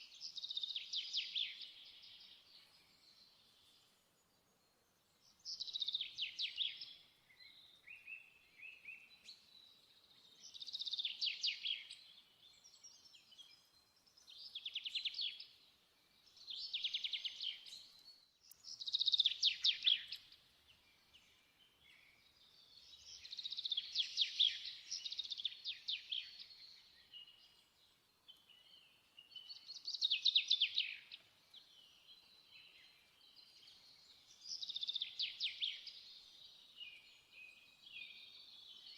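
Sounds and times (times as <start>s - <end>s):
songbird trilling and chirping: 0.0s - 4.0s, 5.0s - 38.9s.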